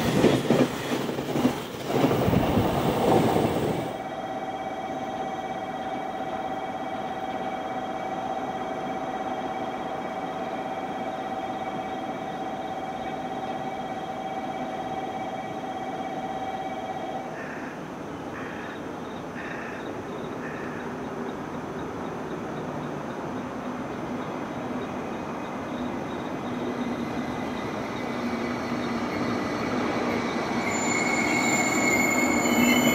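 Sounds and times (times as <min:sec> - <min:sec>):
electric train whine: 0:00.0 - 0:17.9, 0:23.1 - 0:32.9.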